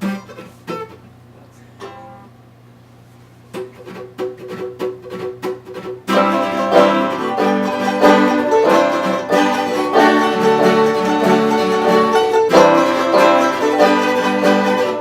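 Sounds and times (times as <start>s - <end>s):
banjo and acoustic guitar picking: 0.0s - 1.0s, 3.6s - 15.0s.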